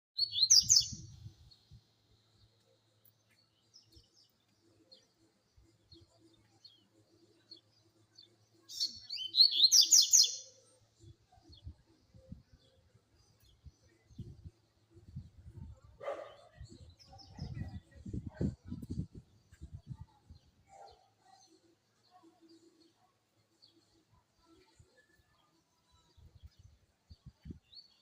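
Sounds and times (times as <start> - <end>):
bird singing warbled phrases: 0.2 - 2.5, 3.5 - 28.0.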